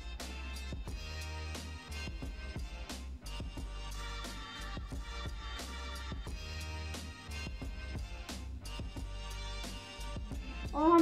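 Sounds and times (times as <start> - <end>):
steady drum beat: 0.0 - 11.0
sustained bass: 0.0 - 11.0.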